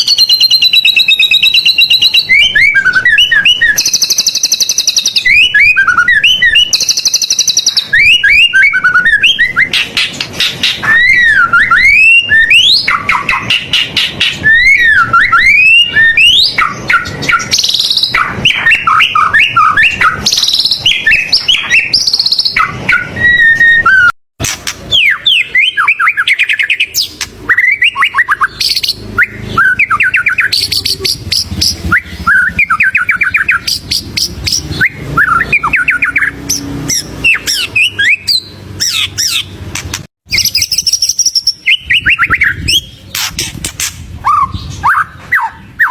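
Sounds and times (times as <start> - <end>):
bird singing varied whistles and trills: 0.0 - 45.9.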